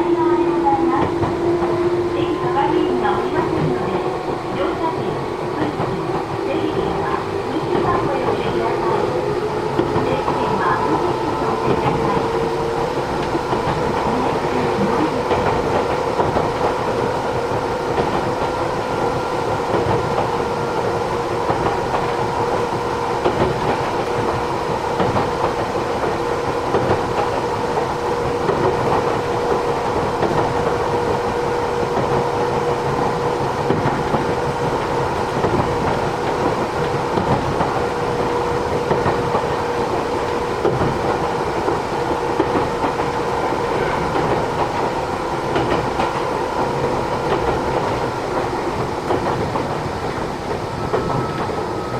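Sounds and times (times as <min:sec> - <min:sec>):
train hum: 0:00.0 - 0:51.9
train wheel and rail noise: 0:00.0 - 0:51.9.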